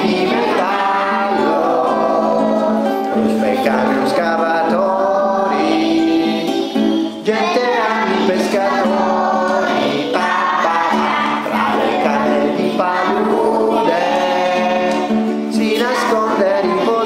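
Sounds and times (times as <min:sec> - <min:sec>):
song with voices singing: 0:00.0 - 0:17.0.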